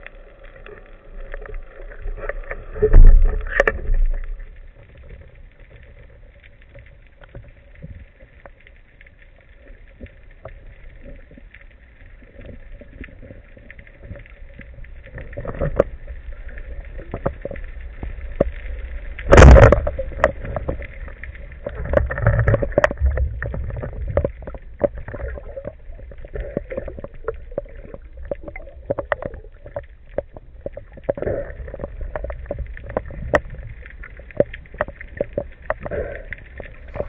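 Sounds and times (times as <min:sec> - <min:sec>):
underwater crackle of clicks: 0:00.0 - 0:37.0.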